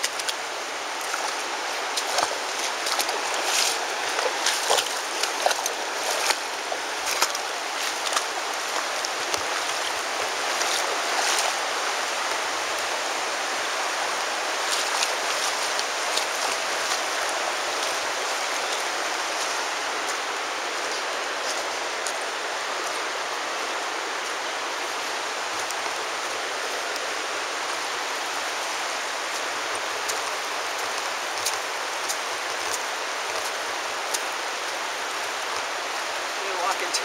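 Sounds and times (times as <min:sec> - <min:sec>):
river water rushing: 0:00.0 - 0:37.0
wading splashes: 0:00.0 - 0:37.0.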